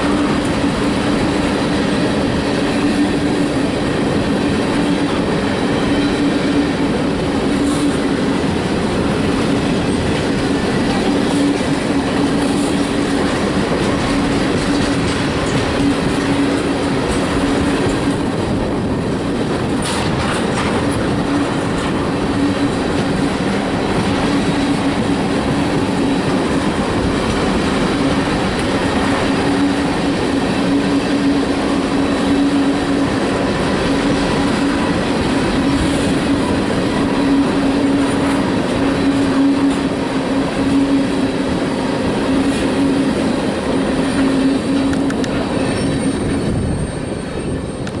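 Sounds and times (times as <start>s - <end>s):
freight train wheels rumbling: 0.0s - 48.0s.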